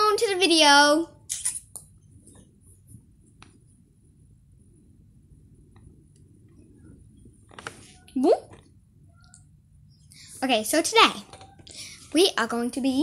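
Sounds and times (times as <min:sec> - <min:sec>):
low room rumble: 0:00.0 - 0:13.0.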